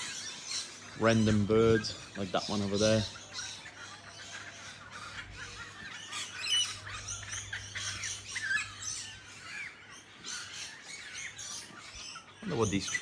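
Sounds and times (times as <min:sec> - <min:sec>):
parrots chirping and screeching: 0:00.0 - 0:13.0.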